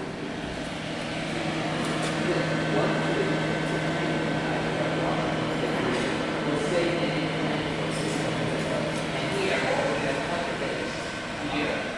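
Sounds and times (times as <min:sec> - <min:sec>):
high whine: 0:00.0 - 0:11.9
low machinery drone: 0:00.0 - 0:11.9.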